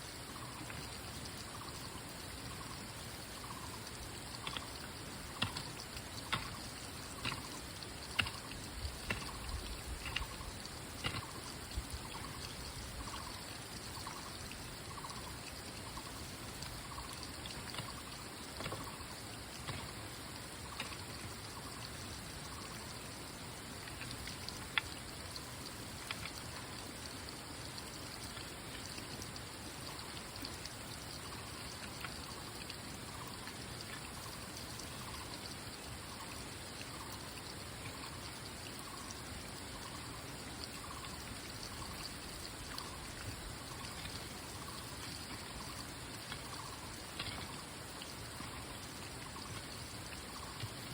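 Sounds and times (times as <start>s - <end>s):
water trickling: 0.0s - 50.9s.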